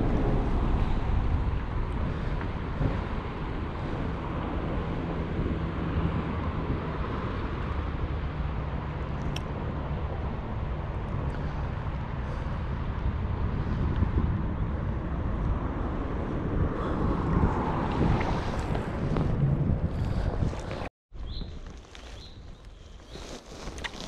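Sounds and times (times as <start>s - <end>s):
low engine tones: 0.0s - 20.9s
road traffic rumble: 0.0s - 24.0s
wind on microphone: 0.0s - 24.0s.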